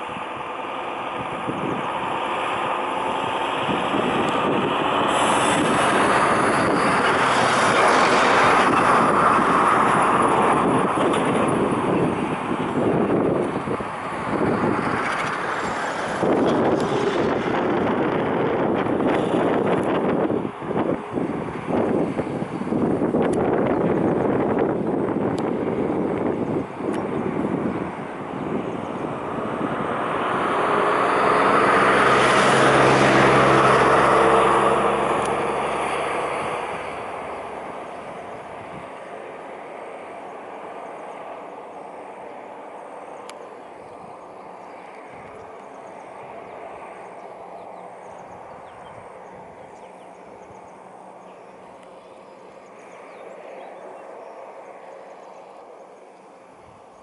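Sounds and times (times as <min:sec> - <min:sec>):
steady rumble: 0:00.0 - 0:57.0
vehicle engine passing by: 0:00.0 - 0:57.0.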